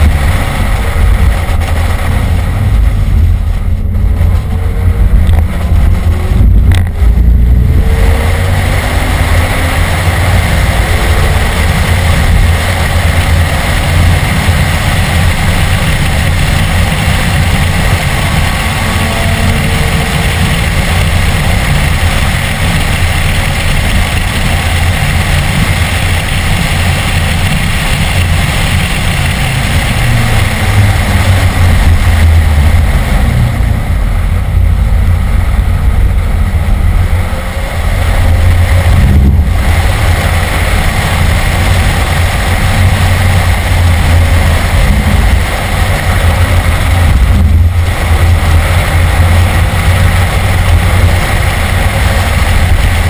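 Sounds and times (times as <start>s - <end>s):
car engine running hard: 0.0s - 53.0s
road and wind noise: 0.0s - 53.0s.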